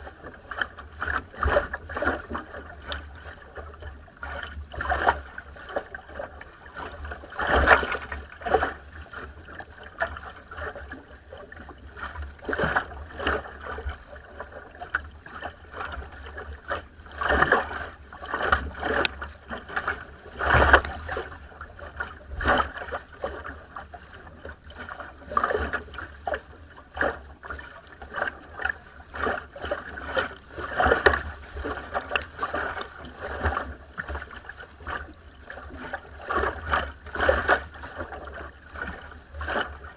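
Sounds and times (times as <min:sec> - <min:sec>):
water splashing along a hull: 0:00.0 - 0:39.9.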